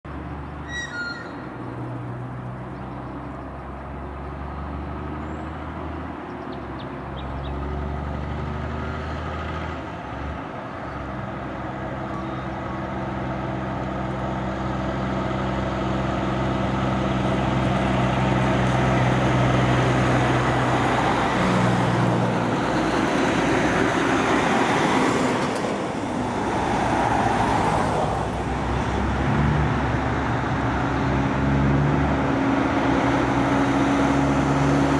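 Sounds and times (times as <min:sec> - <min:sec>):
diesel trucks driving past: 0:00.1 - 0:34.9.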